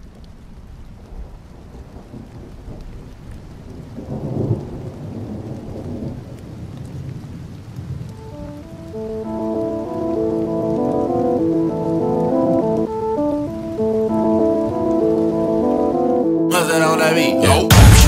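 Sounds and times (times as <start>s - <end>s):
rain falling: 0.0s - 18.0s
rolling thunder rumble: 1.0s - 16.2s.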